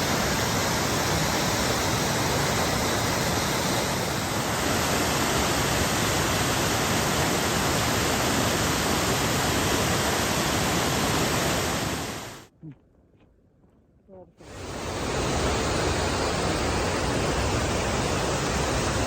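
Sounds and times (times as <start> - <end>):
waterfall rushing: 0.0 - 12.4, 14.4 - 19.0.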